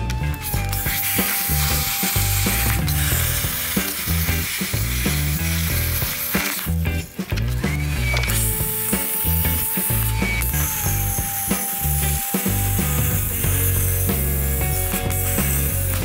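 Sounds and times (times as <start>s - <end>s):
background music with bass: 0.0s - 16.0s
power tool cutting metal: 0.0s - 16.0s.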